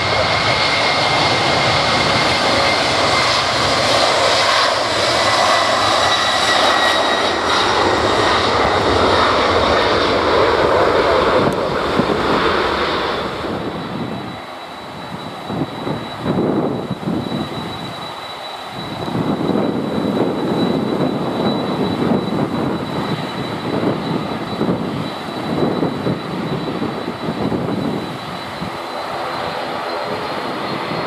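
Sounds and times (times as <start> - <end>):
jet engines roaring at takeoff: 0.0 - 31.0.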